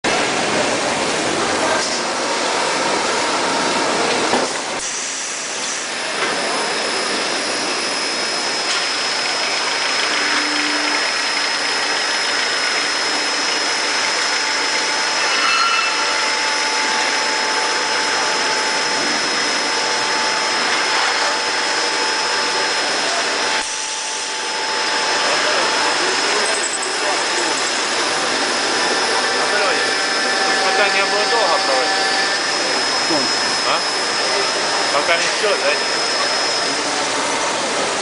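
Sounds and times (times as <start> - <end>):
machine tool hiss and whine: 0.1 - 38.0.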